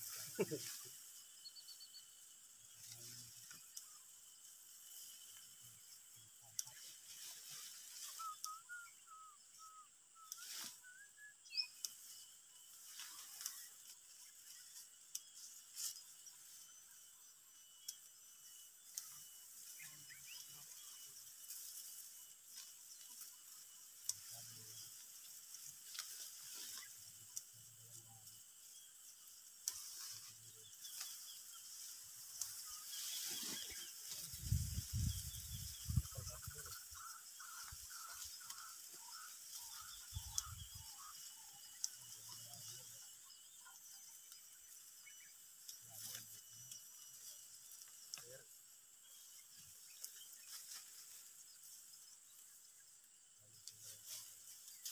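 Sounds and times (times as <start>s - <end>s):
insects buzzing: 0.0s - 54.9s.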